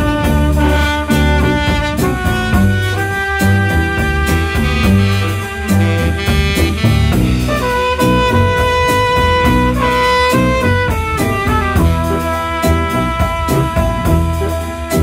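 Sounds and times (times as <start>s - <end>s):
rock band playing: 0.0s - 15.0s
saxophone lead: 0.0s - 15.0s.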